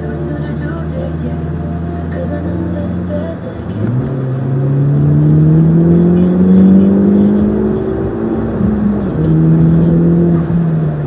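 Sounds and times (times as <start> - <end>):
vehicle engine accelerating: 0.0 - 11.0.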